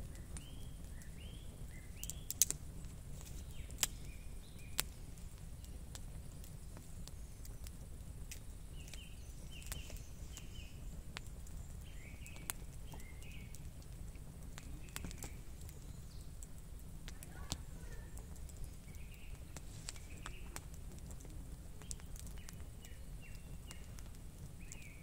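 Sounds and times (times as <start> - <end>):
small bird chirping: 0.0 - 2.6, 3.2 - 13.7, 14.5 - 16.5, 17.1 - 25.0
low steady rumble: 0.0 - 25.0
wood fire crackling and popping: 0.0 - 25.0.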